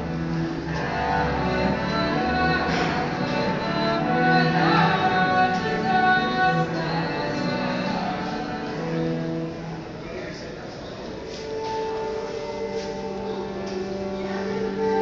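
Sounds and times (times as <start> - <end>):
solo cello slow melody: 0.0 - 10.2, 11.4 - 15.0.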